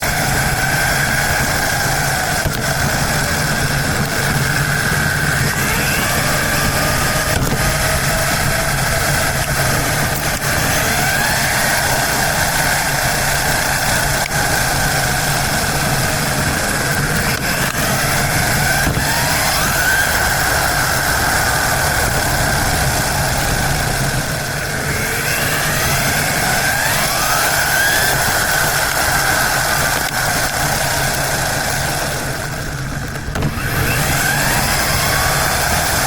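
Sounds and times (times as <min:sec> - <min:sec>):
toy car motor whining: 0:00.0 - 0:36.0.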